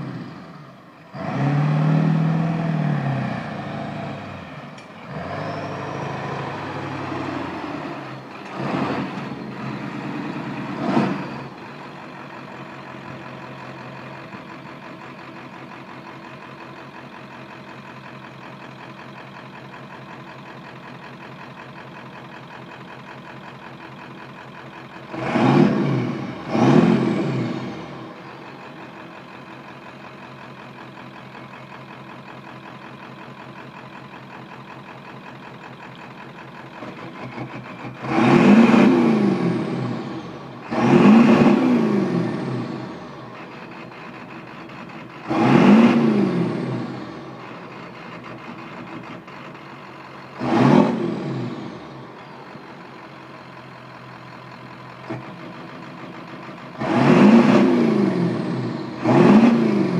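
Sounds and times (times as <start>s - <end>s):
diesel truck engine idling and revving: 0.0s - 59.9s.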